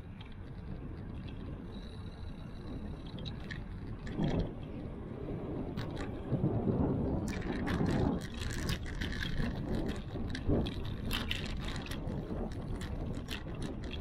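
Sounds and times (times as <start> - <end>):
bicycle clicks and rattles: 0.0 - 14.0
rumbling wind noise: 0.0 - 14.0.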